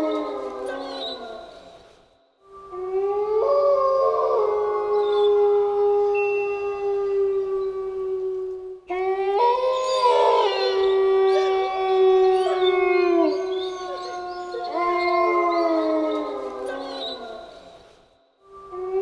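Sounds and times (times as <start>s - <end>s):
wolves howling in chorus: 0.0s - 1.6s, 2.7s - 17.8s.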